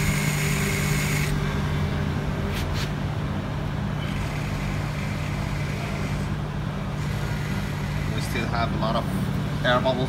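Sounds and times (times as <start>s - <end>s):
electric water pump humming: 0.0s - 8.7s.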